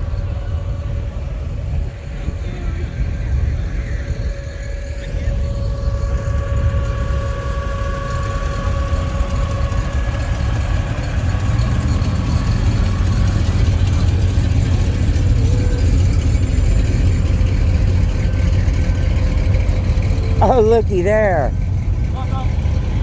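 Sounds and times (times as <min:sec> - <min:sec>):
car engine running low: 0:00.0 - 0:20.4.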